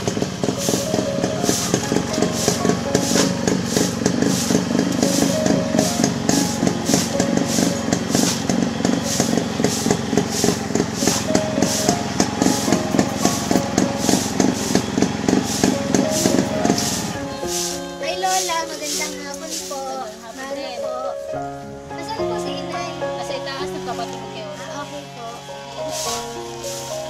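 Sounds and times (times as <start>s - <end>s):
background music with steady beat: 0.0s - 27.0s.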